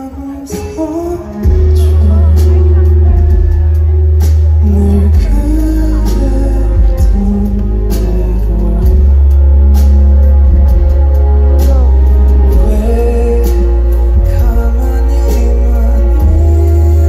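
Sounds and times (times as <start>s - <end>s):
man singing: 0.0s - 17.0s
booming bass with regular beat: 1.4s - 17.0s.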